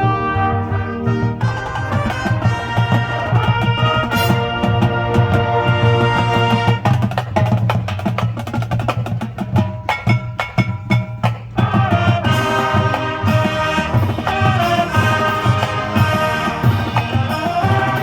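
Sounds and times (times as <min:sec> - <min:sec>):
marching band playing: 0:00.0 - 0:18.0
rapid percussion hits: 0:01.4 - 0:18.0.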